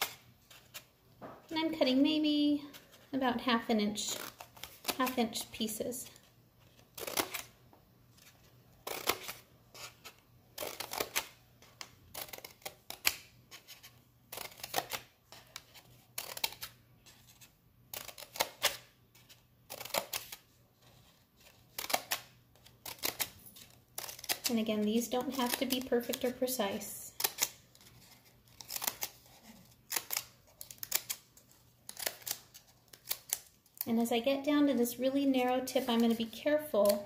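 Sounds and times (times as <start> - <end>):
scissors cutting paper: 3.9 - 6.0, 6.8 - 7.5, 8.2 - 37.0.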